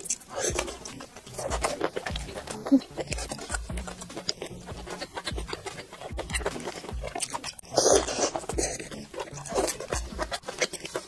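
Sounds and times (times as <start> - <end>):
lobster shell crackling and squelching: 0.0 - 11.0
wet chewing: 0.0 - 11.0.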